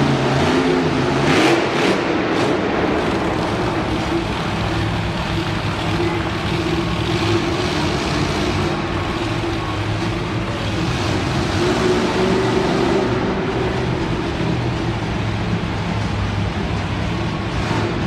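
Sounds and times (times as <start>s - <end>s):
monster truck engine droning: 0.0s - 18.0s.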